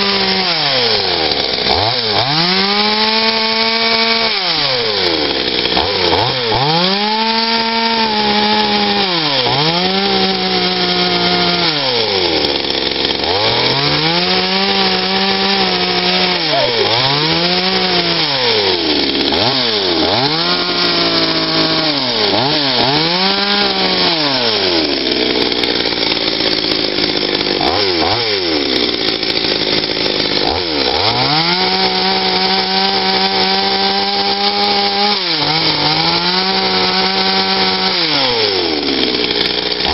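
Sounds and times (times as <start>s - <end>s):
chainsaw revving cutting log: 0.0s - 39.9s.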